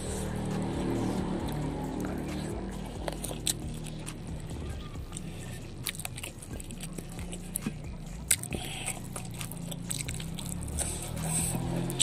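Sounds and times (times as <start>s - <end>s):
close chewing and mouth sounds: 0.0s - 12.0s.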